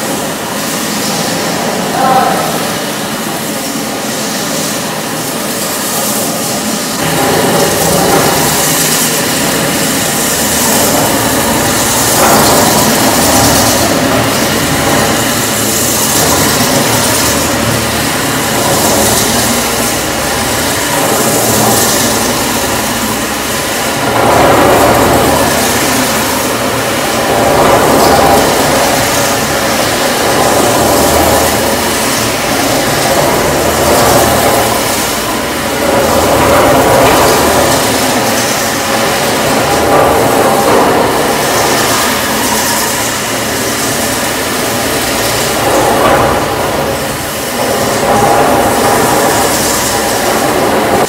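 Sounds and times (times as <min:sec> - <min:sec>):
floor grinding machine whirring: 0:00.0 - 0:51.0.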